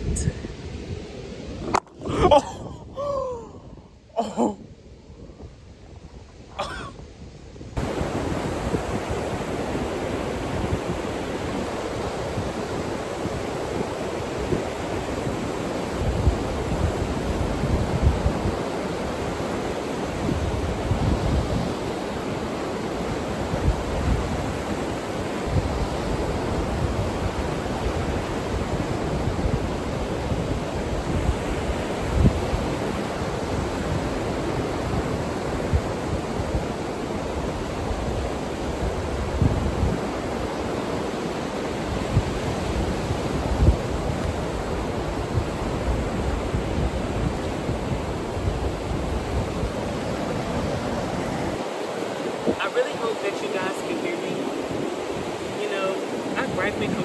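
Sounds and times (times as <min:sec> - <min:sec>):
ocean surf washing: 0:00.0 - 0:57.0
wind buffeting microphone: 0:00.0 - 0:57.0.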